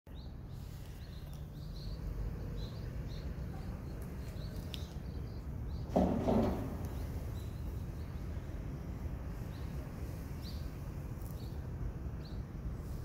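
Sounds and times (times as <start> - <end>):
small bird chirping: 0.1 - 6.0, 6.6 - 13.0.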